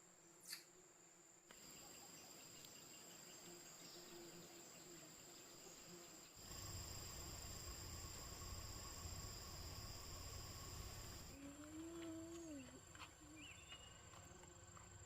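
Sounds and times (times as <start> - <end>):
insects chirring: 0.2 - 15.0.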